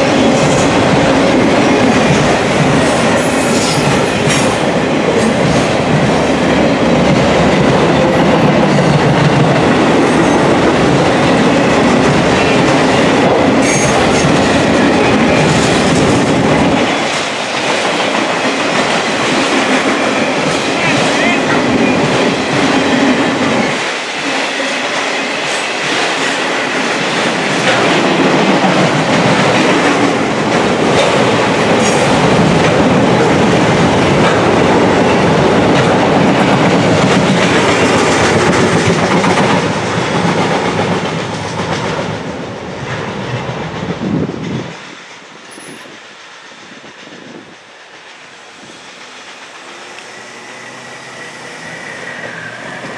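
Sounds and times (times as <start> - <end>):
clickety-clack over rail joints: 0.0 - 48.2
train wheels rumbling on rails: 0.0 - 52.9.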